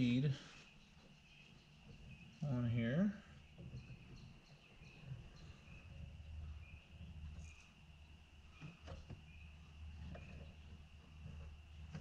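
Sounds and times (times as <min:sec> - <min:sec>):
insect chirping trill: 0:00.0 - 0:12.0.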